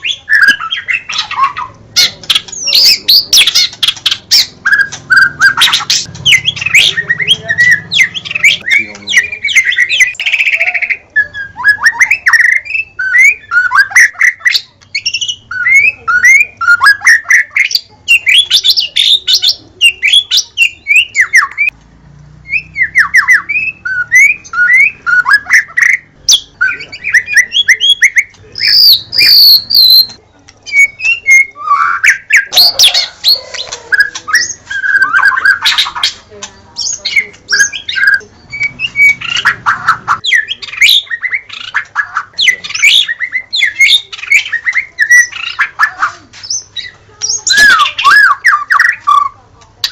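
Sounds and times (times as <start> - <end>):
bird singing whistled phrases: 0.0 - 21.7, 22.4 - 36.2, 36.8 - 45.8, 46.4 - 49.9.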